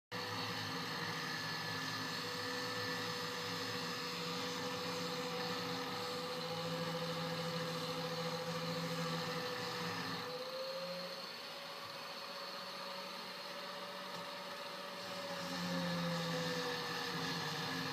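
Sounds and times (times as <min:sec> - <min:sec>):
motor whining: 0:00.2 - 0:17.9.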